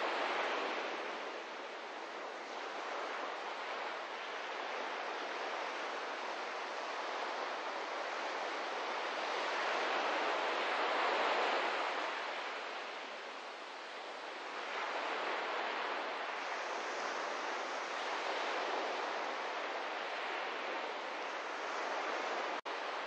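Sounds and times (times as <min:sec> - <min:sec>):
small waves washing onto shore: 0:00.0 - 0:23.0.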